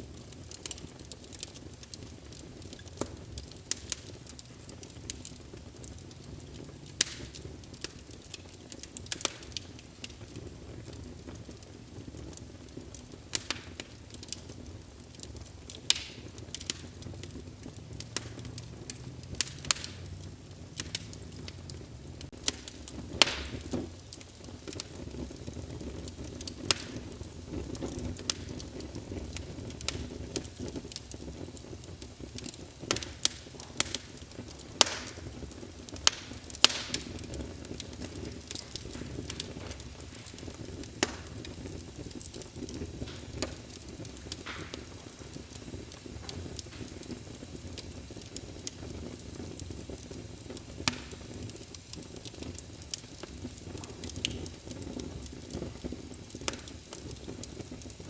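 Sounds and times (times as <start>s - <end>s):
low rumble of burning logs: 0.0s - 58.0s
wood fire crackling and popping: 0.0s - 58.0s.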